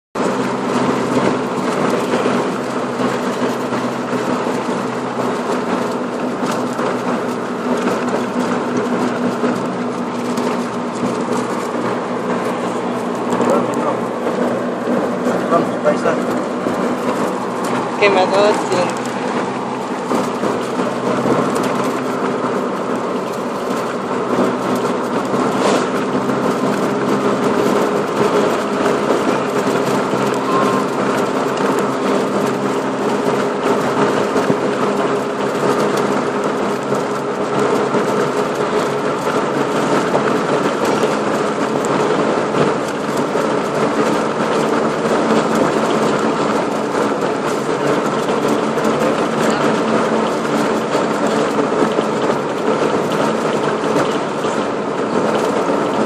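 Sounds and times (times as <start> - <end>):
car engine hum: 0.2 - 56.0
road noise drone: 0.2 - 56.0.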